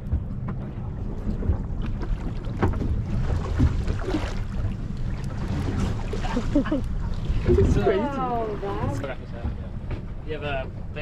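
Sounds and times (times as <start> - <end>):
wind on microphone: 0.0 - 9.0
boat engine idling: 0.0 - 11.0.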